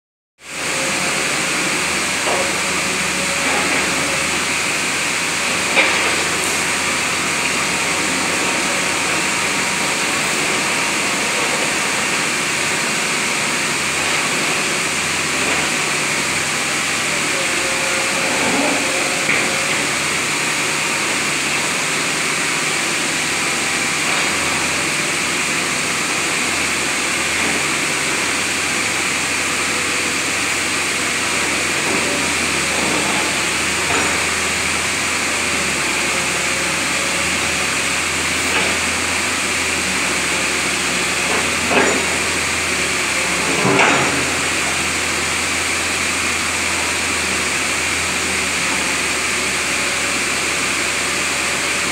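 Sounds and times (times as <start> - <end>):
diesel engine humming: 0.5 - 51.9.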